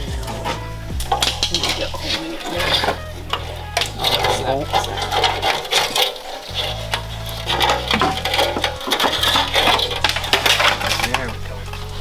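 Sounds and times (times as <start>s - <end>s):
metal clanks and knocks: 0.0s - 11.9s
background music with bass: 0.0s - 12.0s.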